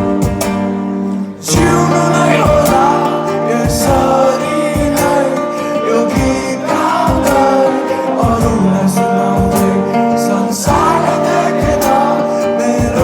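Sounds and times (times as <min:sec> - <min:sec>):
guitar: 0:00.0 - 0:13.0
person singing: 0:00.0 - 0:13.0
steady beat: 0:00.0 - 0:13.0.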